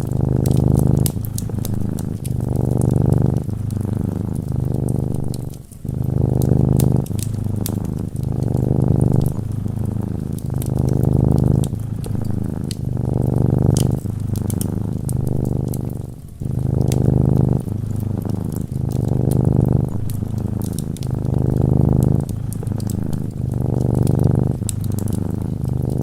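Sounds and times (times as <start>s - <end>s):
cat purring: 0.0s - 26.0s
wood fire crackling: 0.0s - 26.0s.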